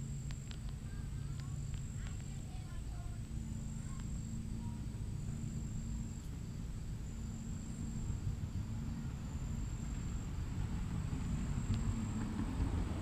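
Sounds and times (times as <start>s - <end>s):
high insect trill: 0.0s - 13.0s
low outdoor rumble: 0.0s - 13.0s.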